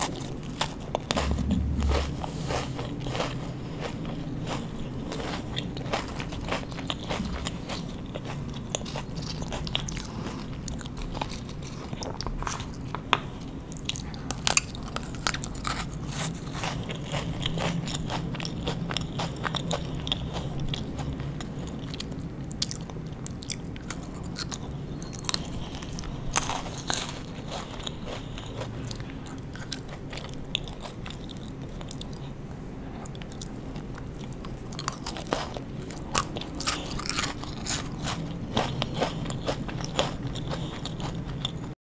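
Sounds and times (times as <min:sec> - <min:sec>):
chewing: 0:00.0 - 0:41.8
crunchy sweets being eaten: 0:00.0 - 0:41.8.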